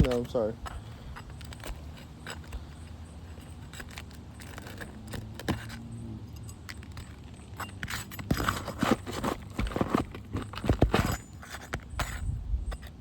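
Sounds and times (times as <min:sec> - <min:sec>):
tool clinking and scraping nails: 0:00.0 - 0:13.0.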